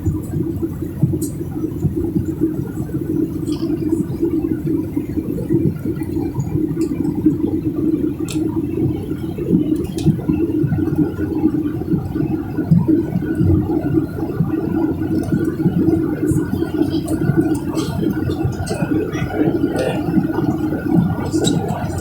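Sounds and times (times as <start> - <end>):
airliner engines: 0.0 - 22.0.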